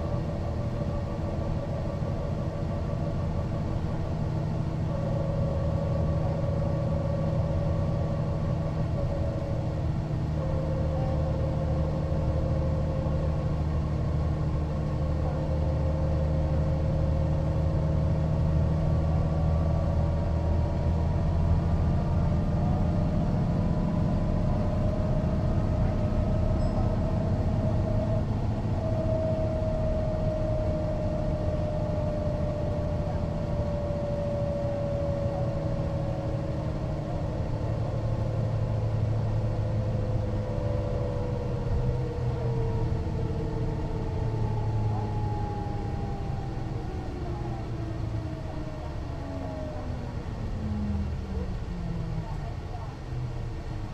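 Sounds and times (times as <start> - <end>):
bus engine drone with whine: 0.0 - 53.9.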